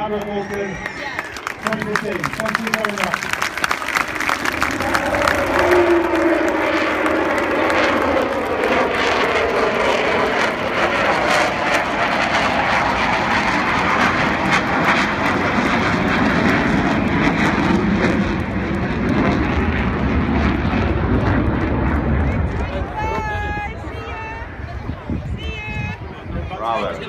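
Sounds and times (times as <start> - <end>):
jet engines roaring at high power: 0.0 - 27.0.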